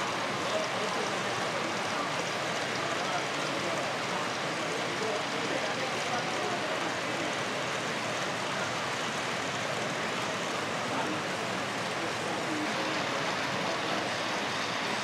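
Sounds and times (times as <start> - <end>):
crowd talking: 0.0 - 15.0.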